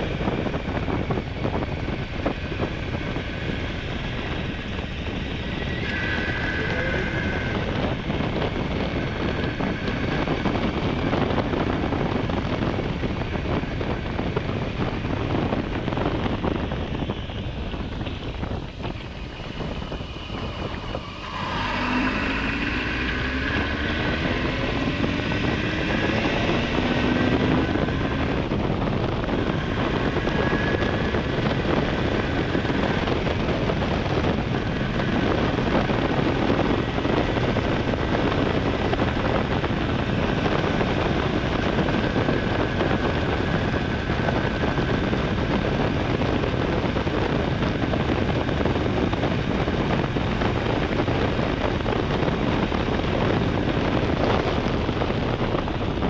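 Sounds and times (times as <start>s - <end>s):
heavy wind rush: 0.0s - 56.0s
motorcycle engine accelerating: 0.0s - 56.0s.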